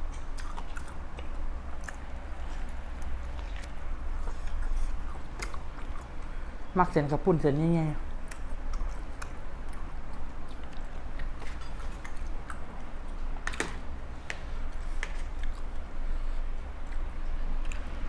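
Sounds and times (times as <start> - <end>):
person chewing food: 0.0 - 6.7, 8.1 - 18.0.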